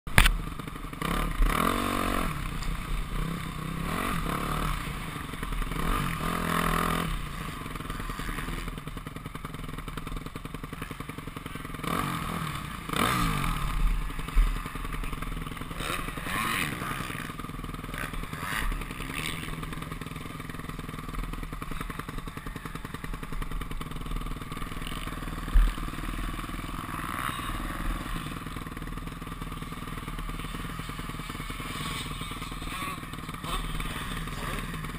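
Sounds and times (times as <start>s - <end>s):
motocross bike engine revving: 0.1s - 34.9s.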